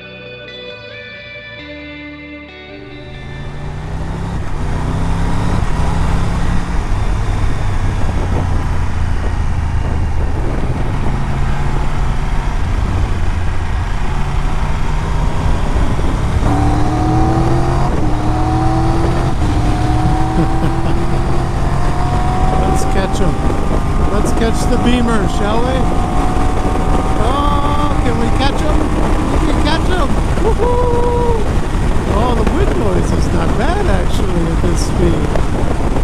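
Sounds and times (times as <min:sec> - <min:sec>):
motorcycle engine accelerating: 0:02.8 - 0:36.0
wind rush: 0:03.2 - 0:36.0.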